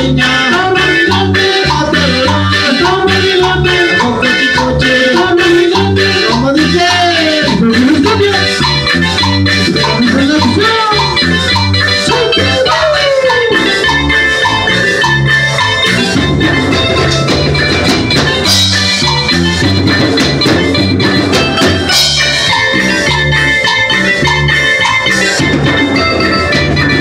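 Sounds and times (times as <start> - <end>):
acoustic guitar: 0.0 - 27.0
electronic keyboard melody: 0.0 - 27.0
steady drum beat: 0.0 - 27.0.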